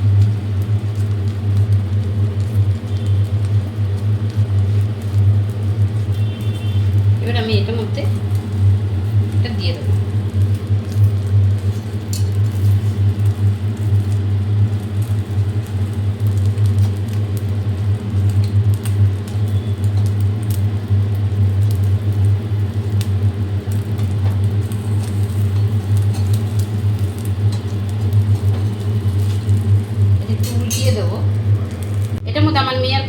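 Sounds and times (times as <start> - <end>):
food frying in oil: 0.0 - 33.0
steady low hum: 0.0 - 33.0.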